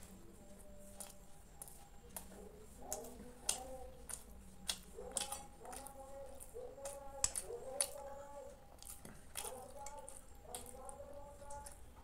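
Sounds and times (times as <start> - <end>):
wet chewing and lip smacks: 0.8 - 12.0.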